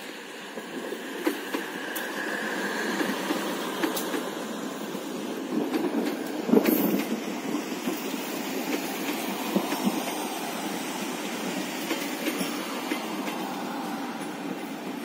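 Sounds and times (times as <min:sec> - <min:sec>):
train wheels rumbling and clacking: 0:00.0 - 0:15.0.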